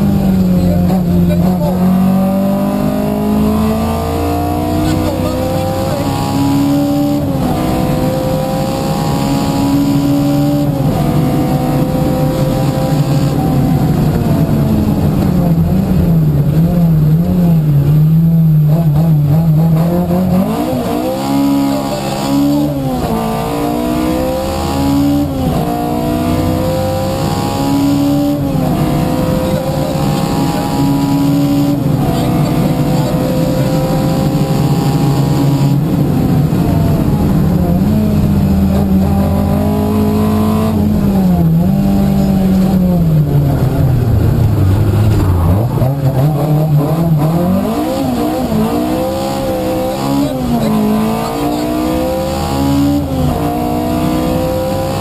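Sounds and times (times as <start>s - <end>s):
rally car engine at full throttle: 0.0s - 55.0s.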